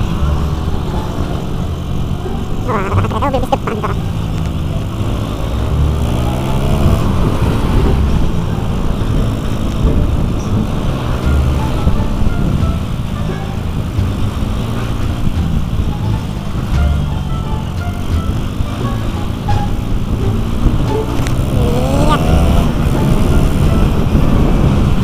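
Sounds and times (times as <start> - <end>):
wind rumble on microphone: 0.0 - 25.0
motorcycle engine running: 3.9 - 25.0.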